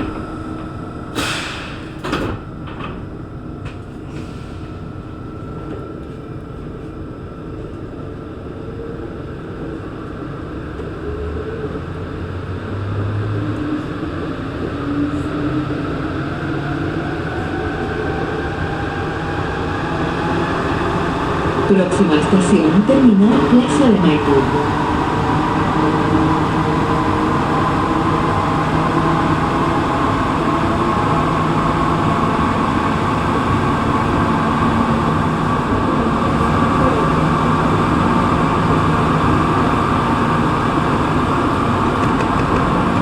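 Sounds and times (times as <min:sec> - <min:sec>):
rumble of train wheels: 0:00.0 - 0:43.0.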